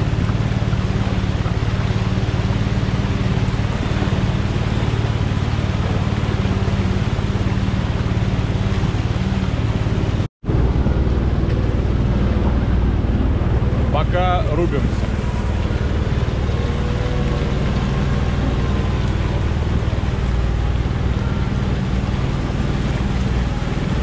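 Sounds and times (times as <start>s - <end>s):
off-road vehicle engine running: 0.0s - 24.0s
rushing noise through mud: 0.0s - 24.0s.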